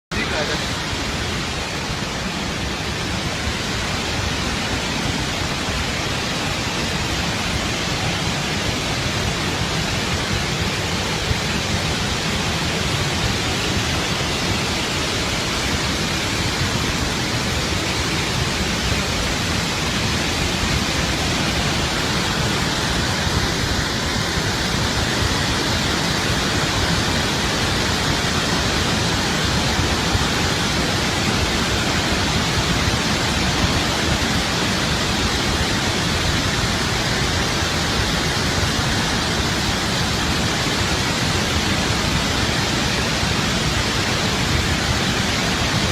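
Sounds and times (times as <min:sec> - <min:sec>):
loud rush of pouring water: 0:00.1 - 0:45.9.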